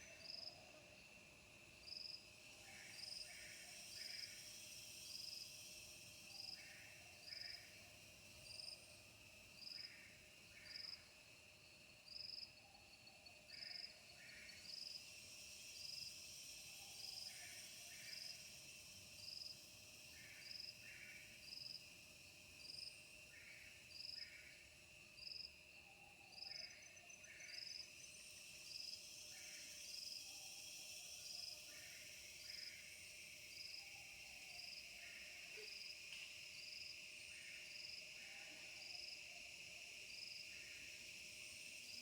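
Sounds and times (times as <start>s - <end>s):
crickets and insects chirping: 0.0s - 42.0s.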